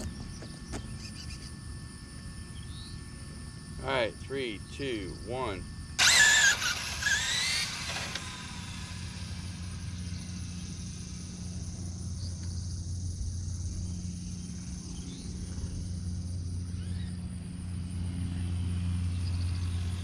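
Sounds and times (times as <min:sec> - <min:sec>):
high-pitched motor whine: 0:00.0 - 0:20.0
steady low hum: 0:00.0 - 0:20.0.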